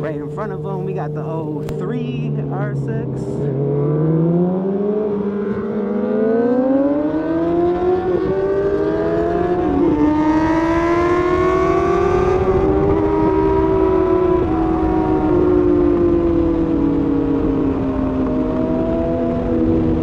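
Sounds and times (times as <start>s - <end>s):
motorcycle engine accelerating: 0.0s - 20.0s
wind rushing over microphone: 2.6s - 20.0s.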